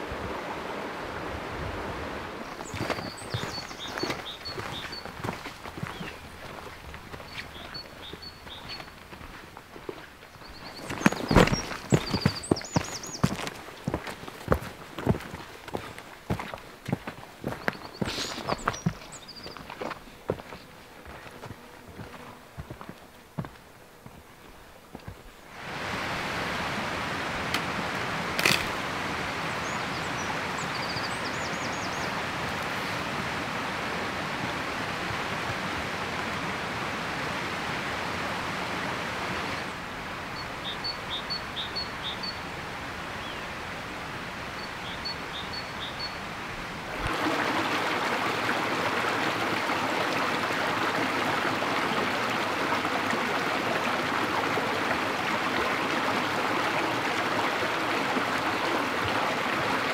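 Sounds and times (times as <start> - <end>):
forest stream rushing: 0.0 - 59.9.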